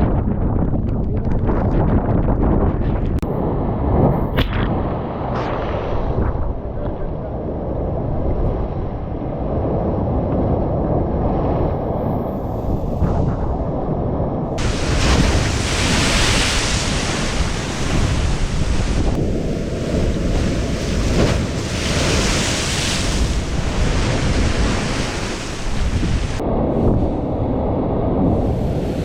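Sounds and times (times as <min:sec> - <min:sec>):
rushing wind and blown water: 0:00.0 - 0:29.0
wind buffeting microphone: 0:00.0 - 0:29.0.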